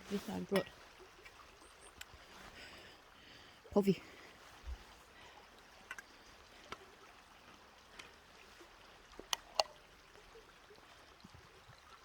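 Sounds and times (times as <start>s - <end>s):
faint stream flowing: 0.0s - 12.0s.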